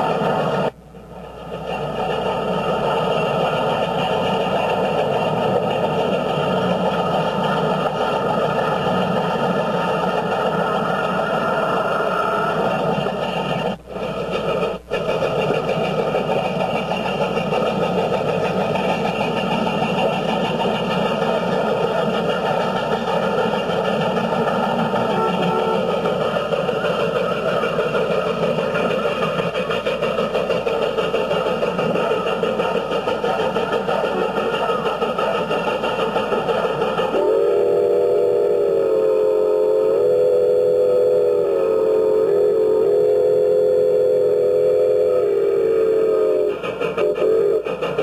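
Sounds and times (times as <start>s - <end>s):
road vehicle running noise: 0.0s - 48.0s.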